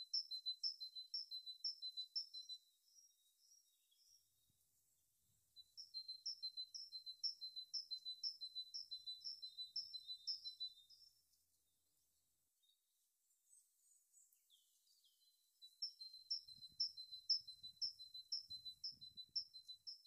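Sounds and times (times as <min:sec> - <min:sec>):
small bird chirping: 0:00.0 - 0:04.6, 0:05.6 - 0:11.4, 0:13.4 - 0:20.0.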